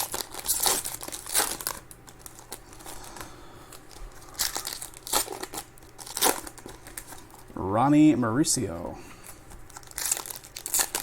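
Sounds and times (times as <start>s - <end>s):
foil wrappers crinkling and tearing: 0.0s - 7.5s, 9.2s - 11.0s.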